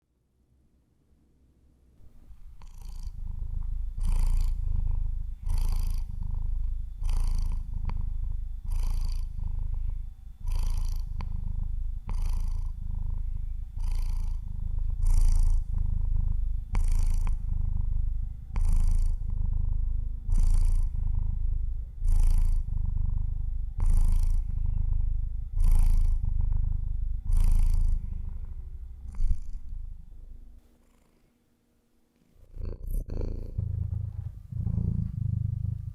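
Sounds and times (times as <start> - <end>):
cat purring: 2.0 - 31.4, 32.2 - 35.9.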